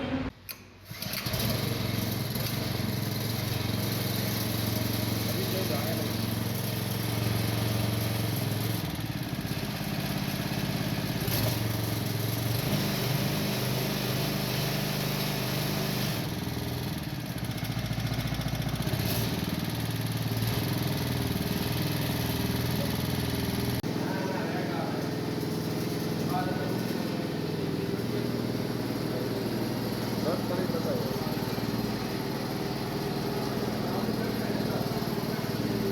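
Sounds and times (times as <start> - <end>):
petrol engine running: 0.0 - 35.9.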